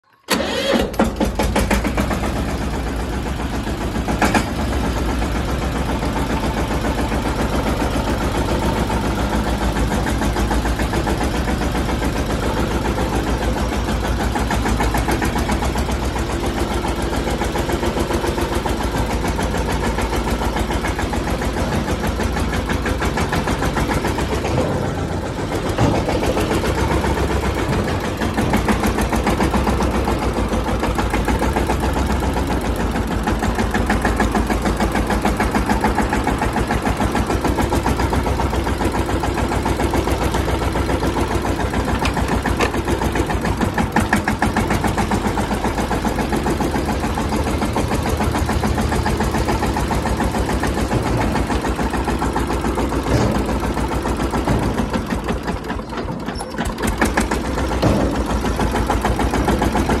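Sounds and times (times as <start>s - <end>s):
diesel tractor engine running: 0.0s - 60.0s.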